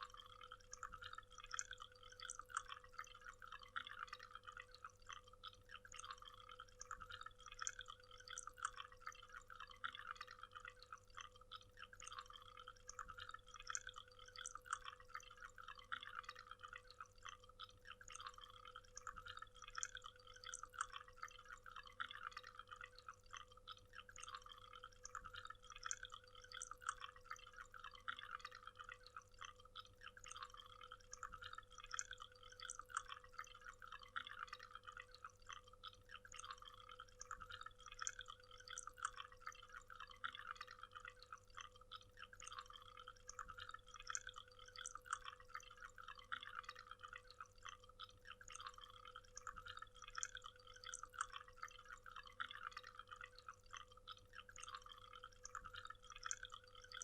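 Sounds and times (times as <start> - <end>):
faint steady hum: 0.0 - 57.0
water splashing and trickling: 0.0 - 57.0.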